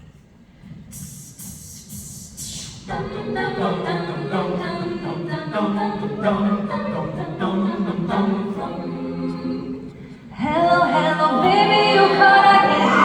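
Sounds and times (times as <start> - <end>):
a cappella group singing chords: 0.6 - 13.0.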